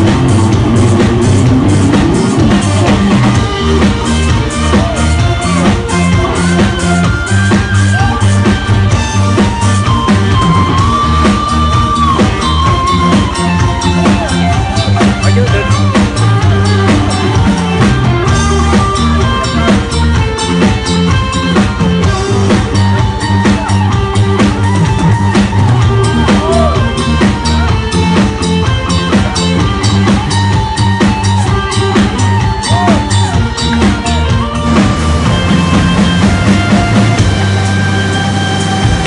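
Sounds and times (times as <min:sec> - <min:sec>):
background music with drums and bass: 0:00.0 - 0:39.0.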